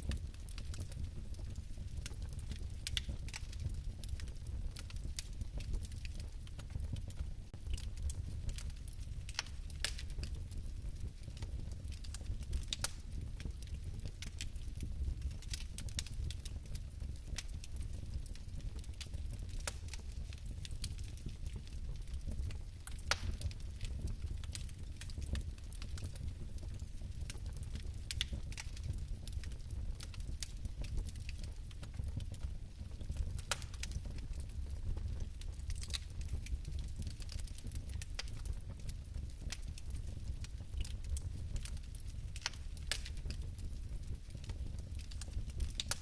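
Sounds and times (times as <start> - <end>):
fire crackling: 0.0 - 46.0
low rumble of flame: 0.0 - 46.0.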